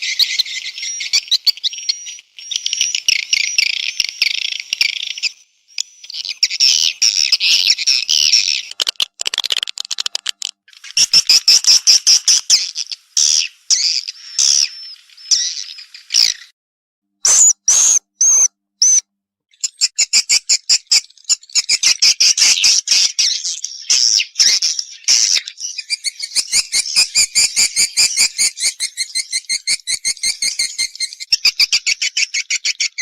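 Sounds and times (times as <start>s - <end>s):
whistled bird notes: 0.0s - 8.7s, 12.6s - 16.6s, 17.2s - 19.0s, 19.6s - 33.0s.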